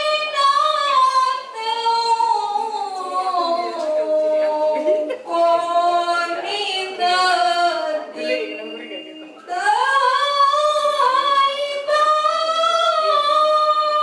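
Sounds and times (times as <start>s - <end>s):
woman reciting melodically: 0.0s - 14.0s.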